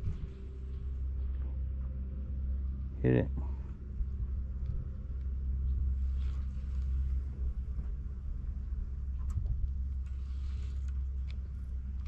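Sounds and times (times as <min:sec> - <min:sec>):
wind buffeting microphone: 0:00.0 - 0:02.7, 0:03.4 - 0:12.0.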